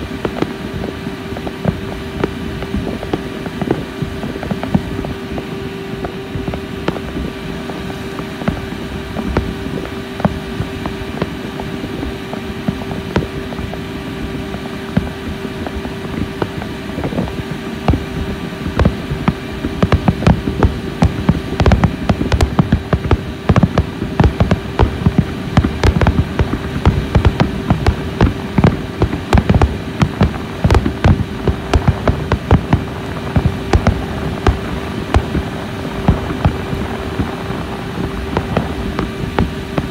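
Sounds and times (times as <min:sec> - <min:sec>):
boat engine hum: 0:00.0 - 0:39.9
fireworks bursting: 0:00.0 - 0:39.9.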